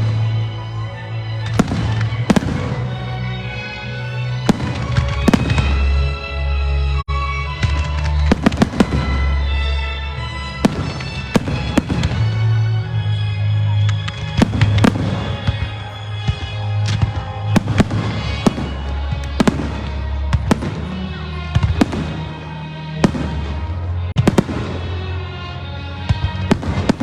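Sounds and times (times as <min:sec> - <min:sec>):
fireworks bangs and cracks: 0:01.4 - 0:06.1, 0:07.5 - 0:27.0.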